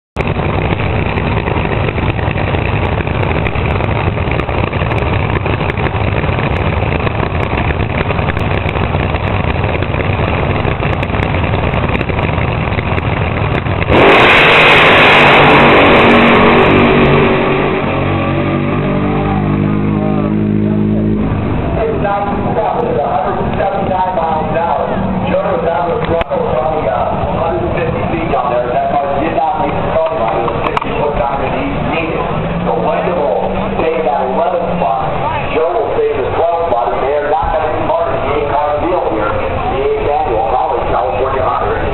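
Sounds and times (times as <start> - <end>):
dragster engine roaring: 0.2 - 41.9.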